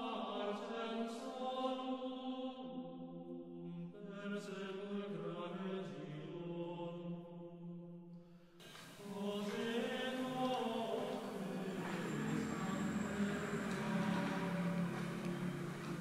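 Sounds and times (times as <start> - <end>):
chant-style singing: 0.0 - 7.9, 8.6 - 16.0.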